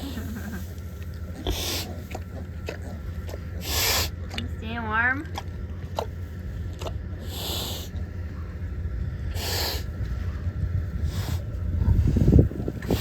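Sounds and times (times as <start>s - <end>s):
low rumble: 0.0s - 13.0s
pigs huffing: 0.0s - 13.0s.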